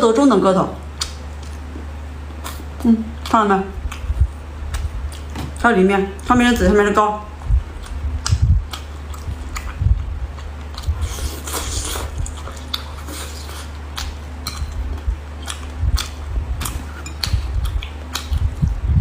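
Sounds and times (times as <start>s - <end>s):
steady low hum: 0.0s - 19.0s
person chewing: 1.0s - 5.4s, 7.7s - 18.8s.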